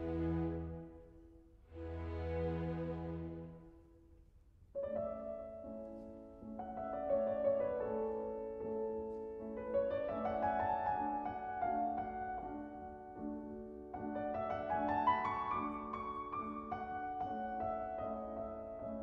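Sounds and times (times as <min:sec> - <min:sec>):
slow classical piano music: 0:00.0 - 0:19.0.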